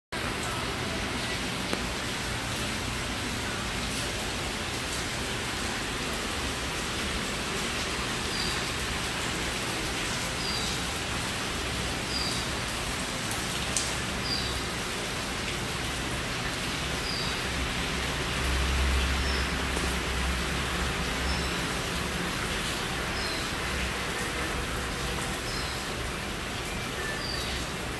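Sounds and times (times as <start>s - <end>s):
rain falling into pool: 0.2s - 27.9s.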